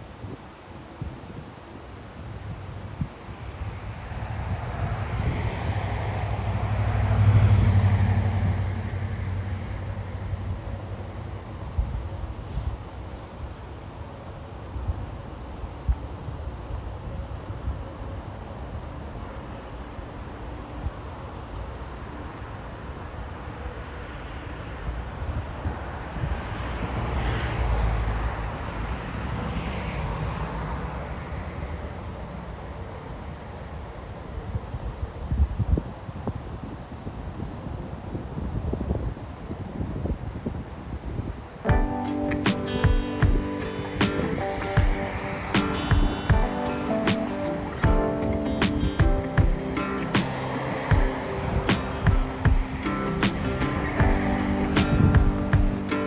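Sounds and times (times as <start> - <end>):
crickets chirping: 0.0 - 26.2, 30.3 - 56.0.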